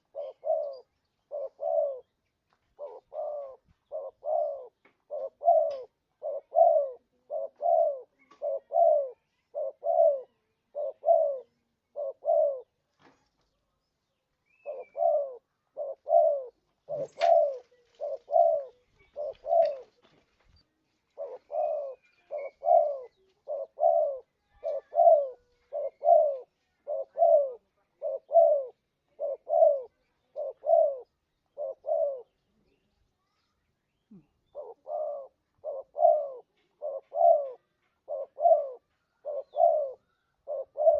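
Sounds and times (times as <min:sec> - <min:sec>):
dove cooing: 0:00.0 - 0:12.8, 0:14.5 - 0:20.2, 0:21.1 - 0:32.7, 0:34.1 - 0:40.9.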